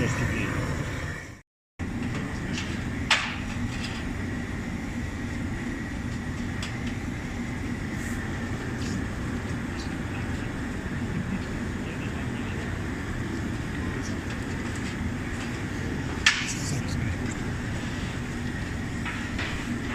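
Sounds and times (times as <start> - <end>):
low rumble of machinery: 0.0 - 19.9.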